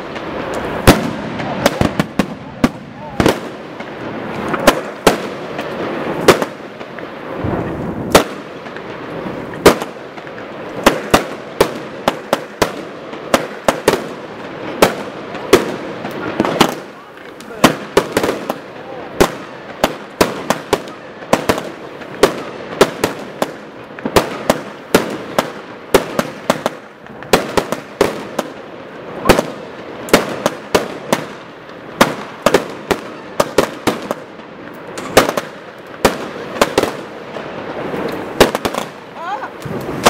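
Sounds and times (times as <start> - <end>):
firework bangs: 0.0 - 40.0
firework crackling: 0.0 - 40.0.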